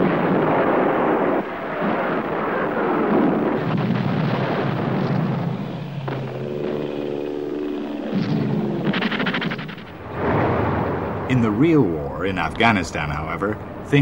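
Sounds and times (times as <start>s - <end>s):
rockets firing: 0.0s - 11.8s
rumble of explosions: 0.0s - 14.0s.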